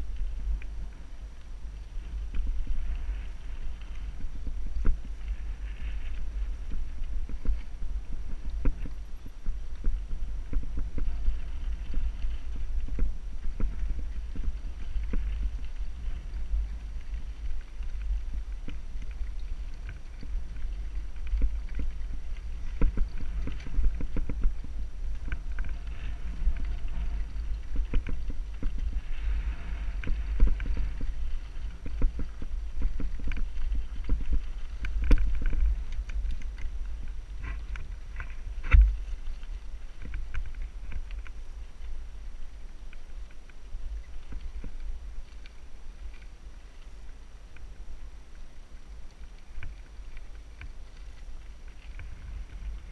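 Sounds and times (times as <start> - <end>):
wind rumbling on microphone: 0.0 - 52.9.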